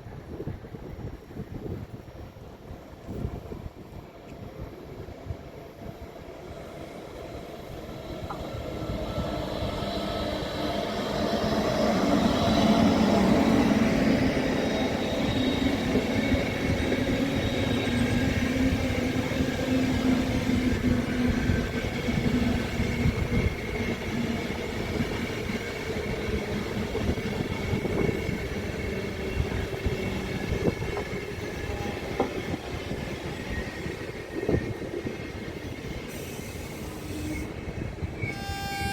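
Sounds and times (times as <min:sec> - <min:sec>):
train drive whine: 0:00.0 - 0:38.9
train wheels rumbling: 0:03.1 - 0:38.9.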